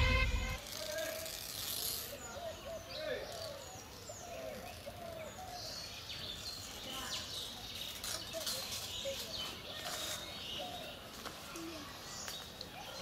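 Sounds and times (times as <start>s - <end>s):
faint background noise: 0.0s - 13.0s
small birds chirping: 1.8s - 13.0s.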